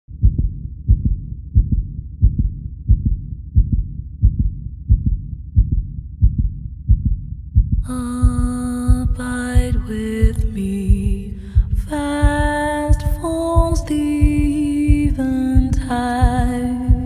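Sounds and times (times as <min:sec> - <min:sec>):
heartbeat thumps: 0:00.1 - 0:17.0.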